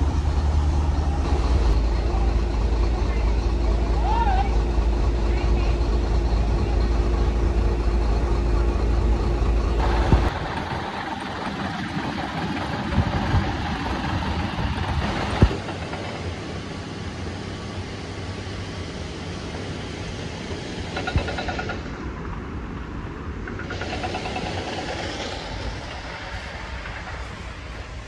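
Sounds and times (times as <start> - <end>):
vehicle engine rumble: 0.0 - 28.0.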